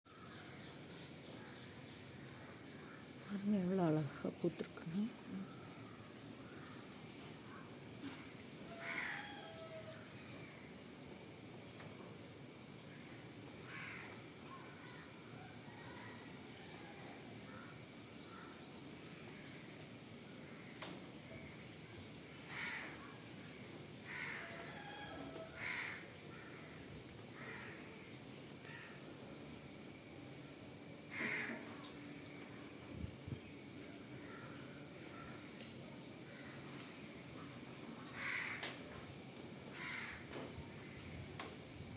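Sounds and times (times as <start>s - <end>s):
high-pitched insect trill: 0.1s - 41.9s.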